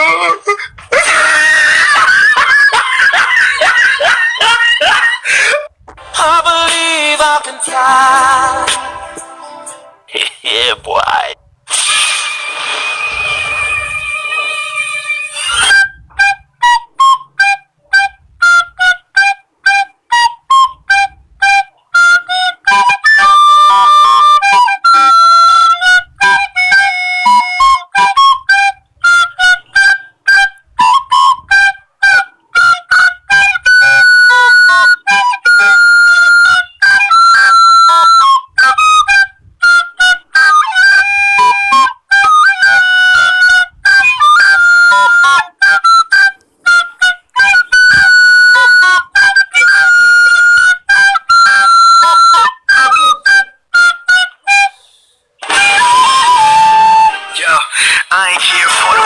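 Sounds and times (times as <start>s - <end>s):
flute-like woodwind melody: 0.0s - 5.0s, 11.7s - 57.9s.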